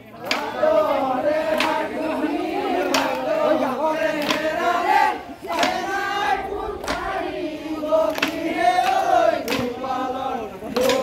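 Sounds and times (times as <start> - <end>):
group chanting in chorus: 0.0 - 11.0.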